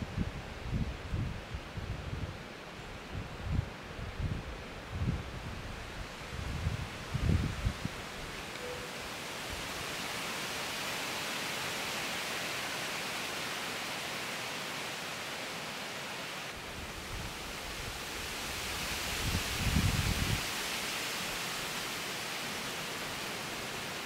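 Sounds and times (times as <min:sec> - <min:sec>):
wind through trees: 0:00.0 - 0:24.0.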